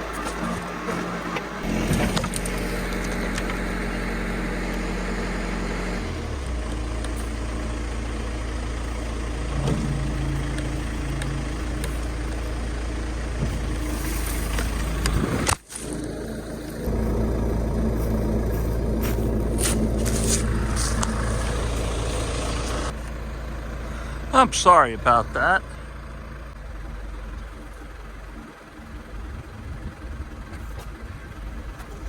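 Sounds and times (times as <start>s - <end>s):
backhoe engine running: 0.0s - 32.0s.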